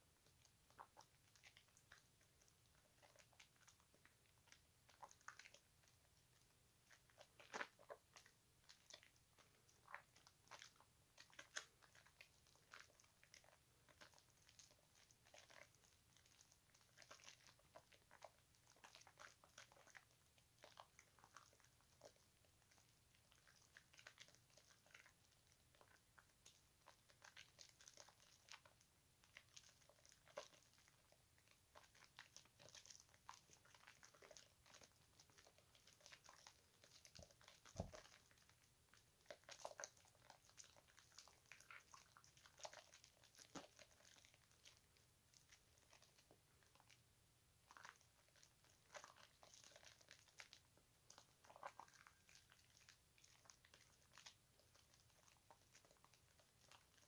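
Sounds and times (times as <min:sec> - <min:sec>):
soap lather squelching: 0:00.2 - 0:47.0, 0:47.6 - 0:57.0.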